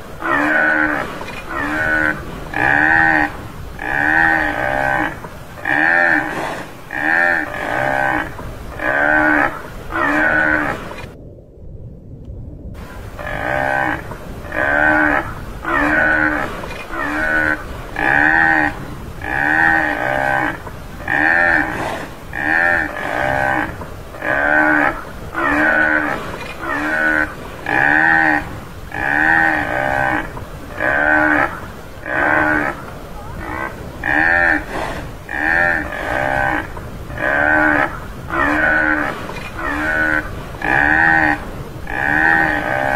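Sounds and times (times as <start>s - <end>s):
buffalo bleating moos: 0.2s - 10.9s, 13.2s - 42.9s.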